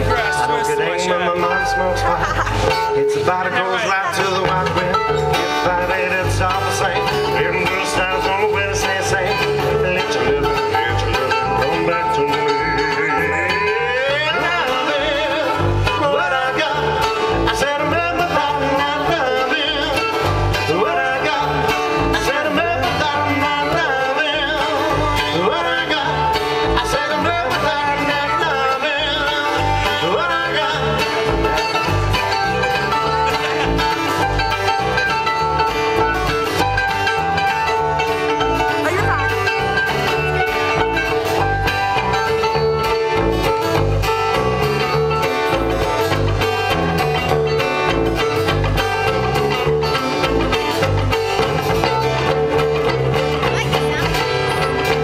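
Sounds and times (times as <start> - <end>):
acoustic guitar strumming: 0.0 - 55.0
electric bass: 0.0 - 55.0
mandolin: 0.0 - 55.0.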